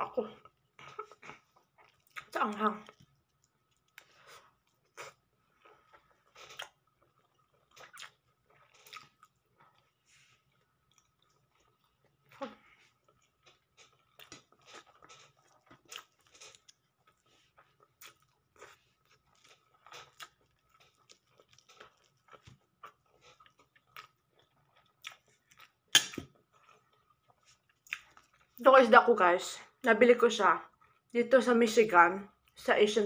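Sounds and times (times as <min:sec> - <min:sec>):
chewing and crunching food: 0:00.2 - 0:28.7.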